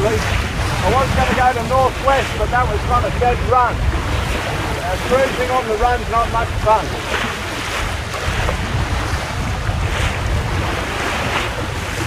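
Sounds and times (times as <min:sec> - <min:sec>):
sea rushing along hull: 0:00.0 - 0:12.0
wind buffeting microphone: 0:00.0 - 0:12.0.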